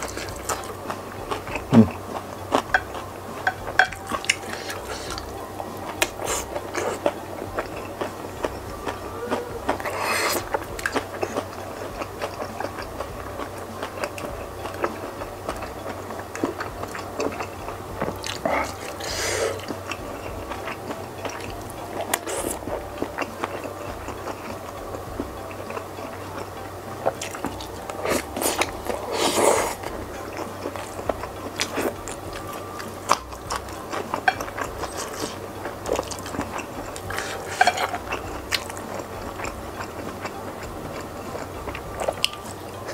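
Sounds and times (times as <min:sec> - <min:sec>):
close chewing and mouth sounds: 0:00.0 - 0:42.9.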